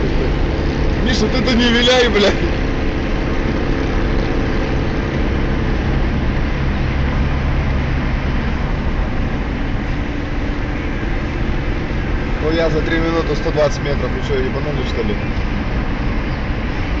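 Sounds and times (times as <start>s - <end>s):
car engine drone: 0.0s - 17.0s.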